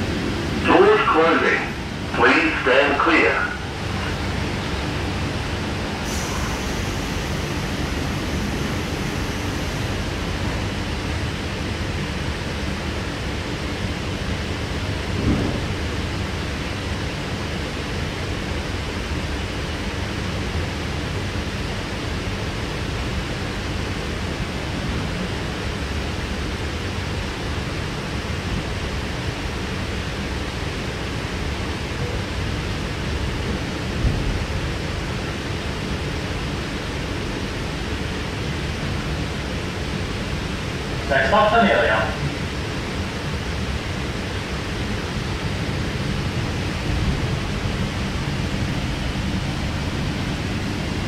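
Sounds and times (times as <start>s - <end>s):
electric train running rumble: 0.0s - 51.0s.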